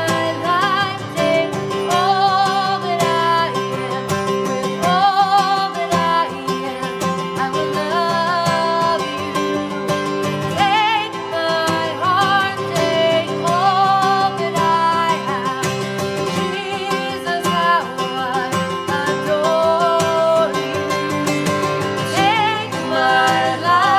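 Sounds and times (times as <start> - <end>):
acoustic guitar: 0.0 - 23.9
woman singing: 0.0 - 23.9.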